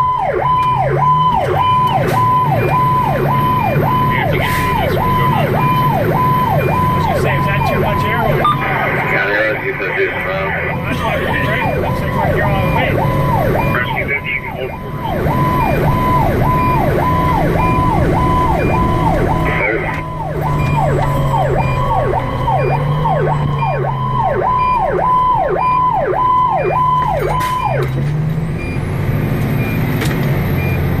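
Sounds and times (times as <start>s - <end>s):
electronic siren: 0.0s - 28.0s
diesel engine drone: 0.0s - 31.0s.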